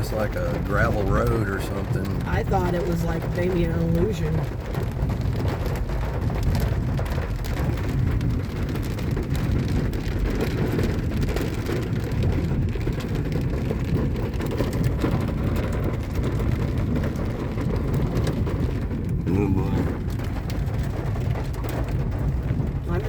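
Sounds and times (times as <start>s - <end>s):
hail pattering on a vehicle: 0.0s - 23.0s
vehicle rumbling: 0.0s - 23.0s.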